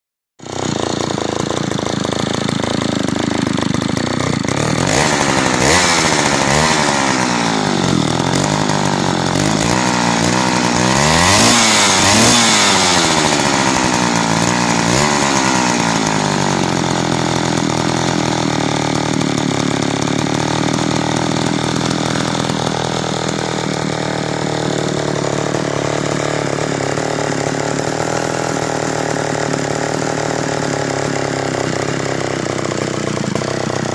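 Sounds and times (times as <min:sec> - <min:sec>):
chainsaw revving and idling: 0:00.4 - 0:33.9.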